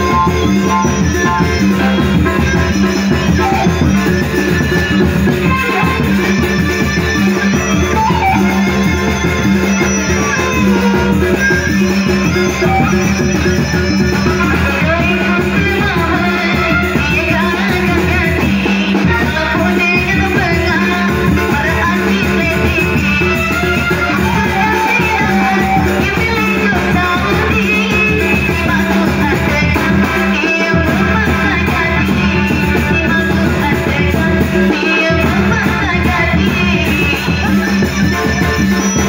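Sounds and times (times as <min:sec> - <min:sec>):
drums beating: 0:00.0 - 0:39.0.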